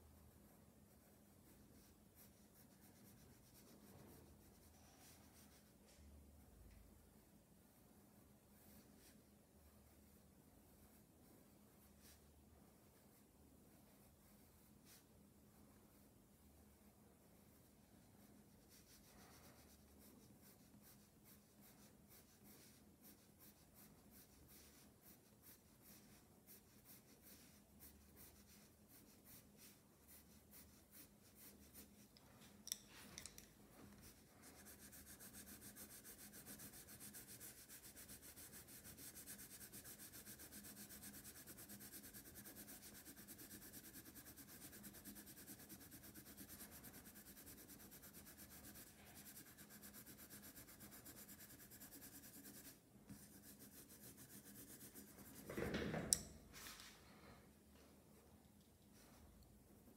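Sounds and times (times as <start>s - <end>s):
pencil scratching on paper: 0.0s - 5.7s, 8.6s - 16.1s, 17.3s - 55.5s.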